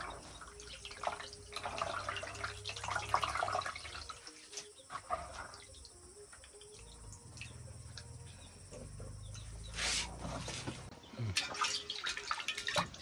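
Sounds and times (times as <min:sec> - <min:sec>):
water sloshing and splashing: 0:00.0 - 0:08.0, 0:10.0 - 0:13.0
water dripping: 0:00.0 - 0:09.5, 0:11.2 - 0:13.0.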